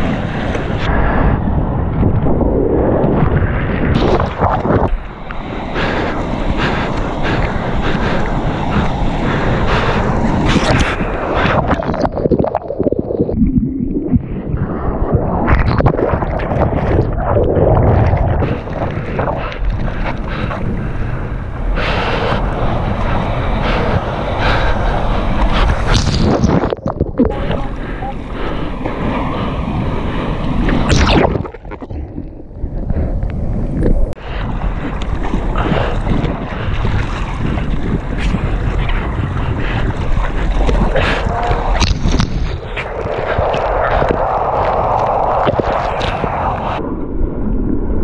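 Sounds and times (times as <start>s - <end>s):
ocean surf splashing: 0.0s - 46.9s
wind buffeting microphone: 0.0s - 48.0s.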